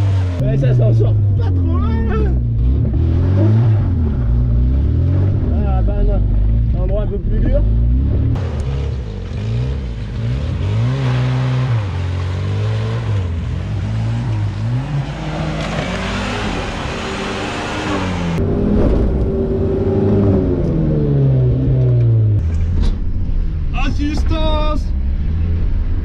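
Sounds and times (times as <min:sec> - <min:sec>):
engine revving: 0:00.0 - 0:23.7.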